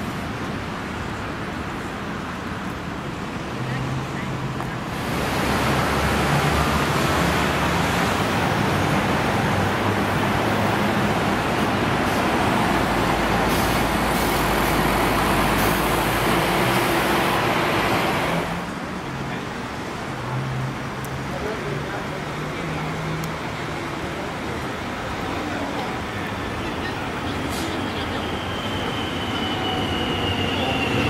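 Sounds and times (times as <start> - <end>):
bus engines: 0.0 - 31.0.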